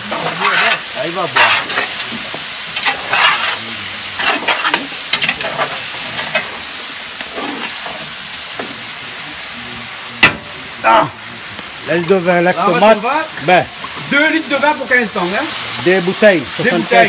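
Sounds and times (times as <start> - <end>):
meat sizzling in a pot: 0.0 - 17.0.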